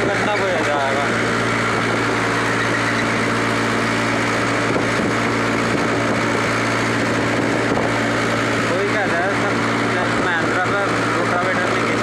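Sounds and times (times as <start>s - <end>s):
rotavator churning soil: 0.0s - 12.0s
tractor diesel engine running: 0.0s - 12.0s.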